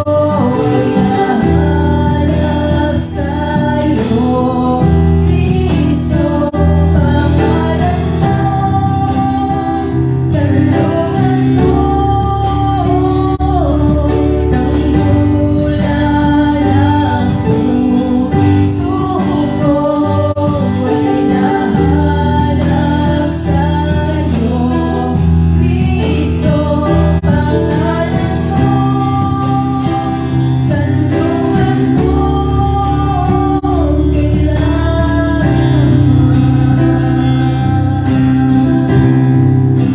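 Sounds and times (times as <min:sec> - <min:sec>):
worship song with backing band: 0:00.0 - 0:39.9.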